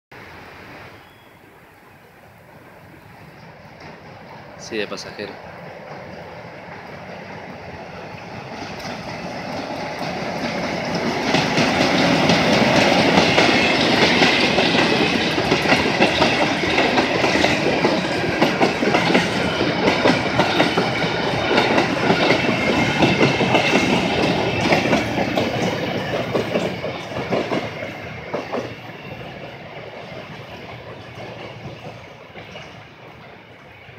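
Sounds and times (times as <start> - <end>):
diesel locomotive passing: 0.2 - 33.9.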